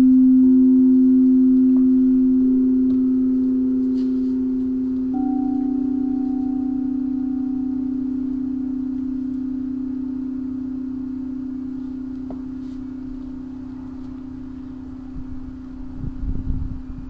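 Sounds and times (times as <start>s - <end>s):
singing bowl ringing: 0.0s - 16.6s.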